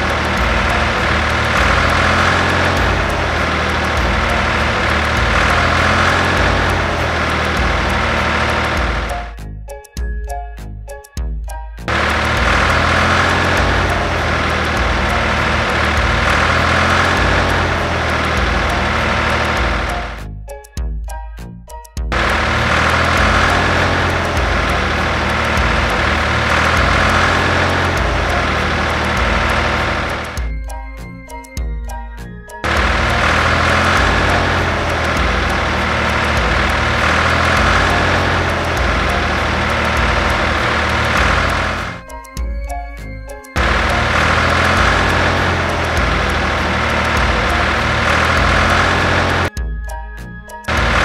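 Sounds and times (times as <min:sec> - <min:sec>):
tractor engine running: 0:00.0 - 0:09.4, 0:11.9 - 0:20.2, 0:22.1 - 0:30.8, 0:32.6 - 0:49.6, 0:50.6 - 0:51.0.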